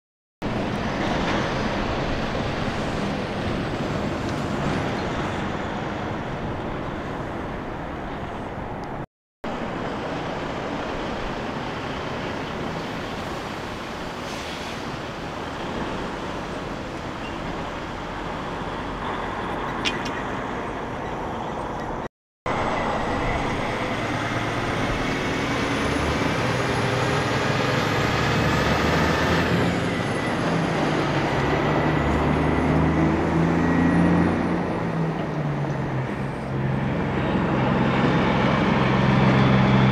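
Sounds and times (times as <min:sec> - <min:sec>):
trucks passing: 0:00.4 - 0:39.9
tyre and road noise: 0:00.4 - 0:39.9.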